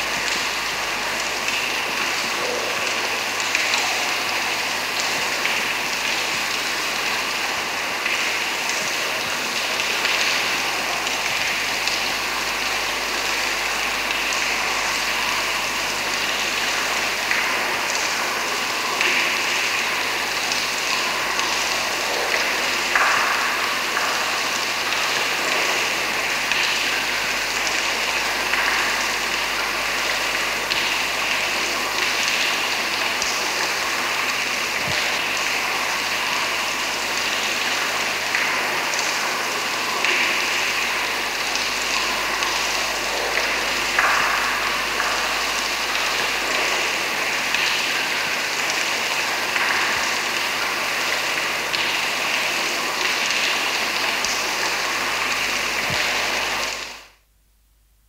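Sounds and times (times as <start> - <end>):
water dripping in a cavern: 0.0 - 57.3.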